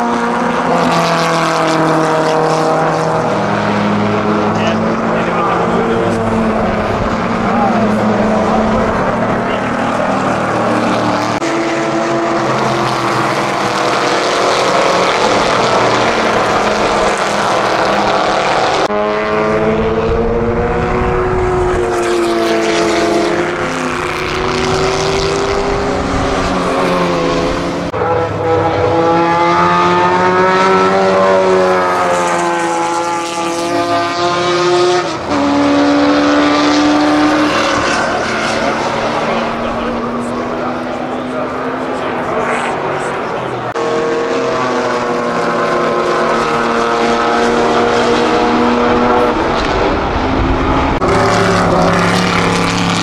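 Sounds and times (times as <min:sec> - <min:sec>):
racing cars accelerating: 0:00.0 - 0:53.0.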